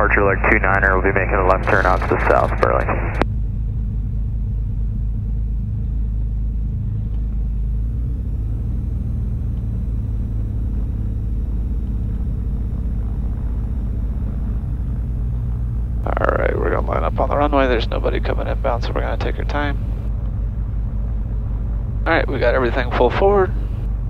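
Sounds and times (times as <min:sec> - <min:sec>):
piston engines droning: 0:00.0 - 0:24.0.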